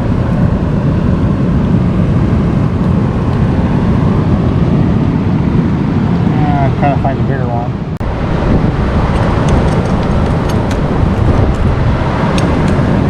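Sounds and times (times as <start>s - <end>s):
surf on rocky shore: 0.0s - 13.0s
wind: 0.0s - 13.0s.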